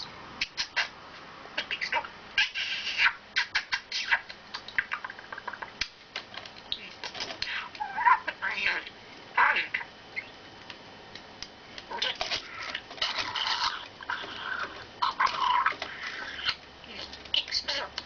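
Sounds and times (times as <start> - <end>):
pet bird chattering: 0.4 - 0.9, 1.6 - 5.8, 6.7 - 10.4, 11.9 - 18.0.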